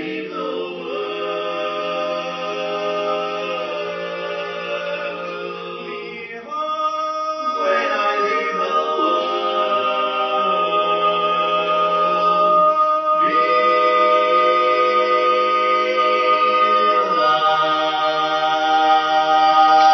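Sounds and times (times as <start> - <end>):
men singing in close harmony: 0.0 - 19.9.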